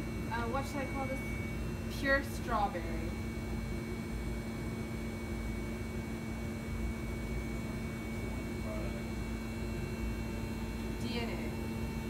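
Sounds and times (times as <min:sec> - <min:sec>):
lab equipment and ventilation hum: 0:00.0 - 0:12.0.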